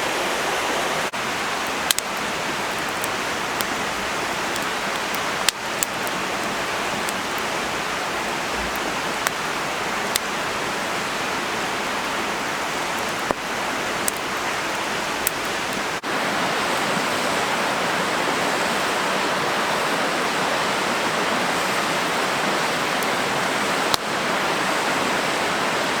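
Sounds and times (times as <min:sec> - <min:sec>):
rushing hiss of water: 0:00.0 - 0:26.0.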